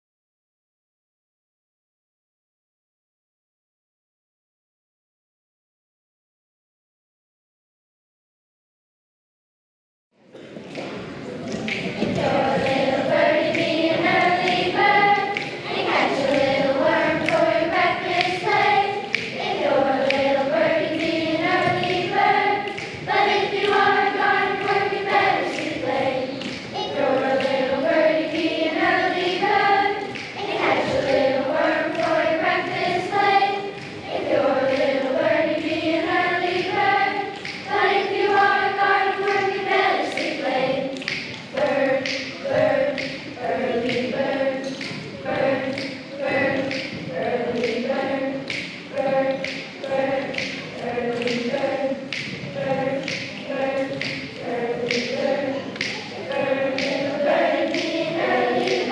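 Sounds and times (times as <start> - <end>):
choir singing: 11.6 - 58.9.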